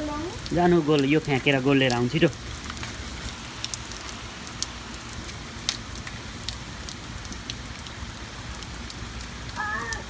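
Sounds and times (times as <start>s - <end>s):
raindrops ticking: 0.0s - 10.0s
steady rain falling: 0.0s - 10.0s.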